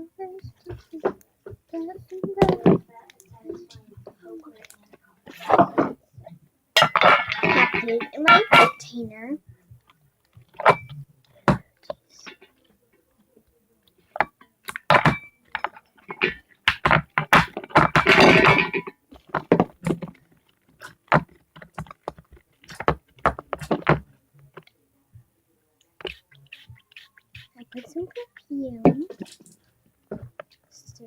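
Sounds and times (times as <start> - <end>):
objects tapping and knocking: 0.4 - 6.0, 6.8 - 9.1, 9.7 - 13.2, 13.8 - 24.7, 25.8 - 31.0.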